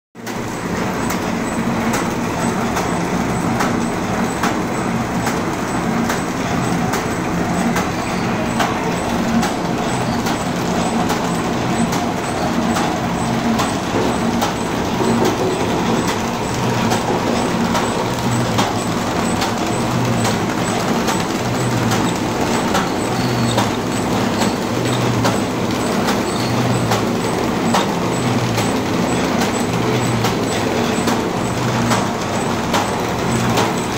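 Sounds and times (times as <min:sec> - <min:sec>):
machine clattering with regular clicks: 0:00.2 - 0:33.9.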